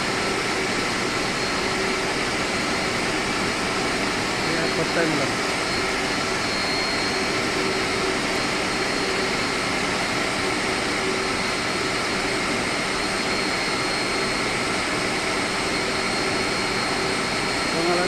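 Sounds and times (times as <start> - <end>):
air conditioning machinery roar: 0.0 - 18.0
thin high whine: 0.0 - 18.0.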